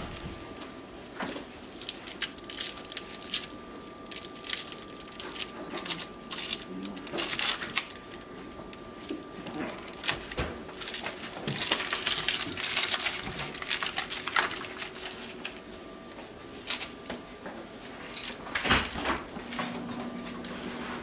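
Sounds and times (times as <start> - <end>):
puppies scuffling paws and claws: 0.0 - 21.0.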